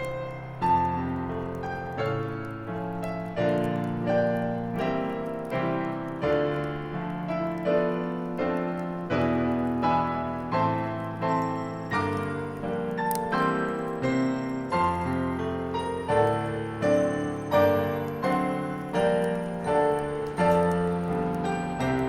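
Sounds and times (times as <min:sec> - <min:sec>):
slow solo piano: 0:00.0 - 0:22.0.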